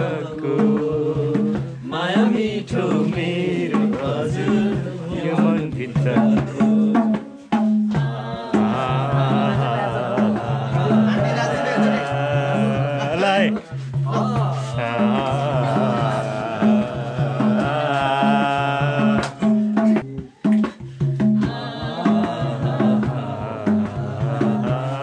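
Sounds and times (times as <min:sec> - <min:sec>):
song with singing voice: 0:00.0 - 0:25.0.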